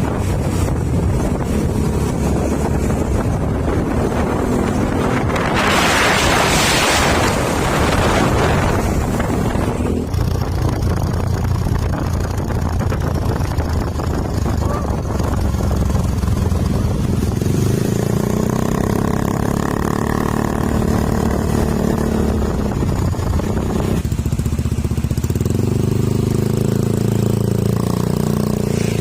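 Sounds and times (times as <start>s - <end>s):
wind buffeting microphone: 0.0s - 24.1s.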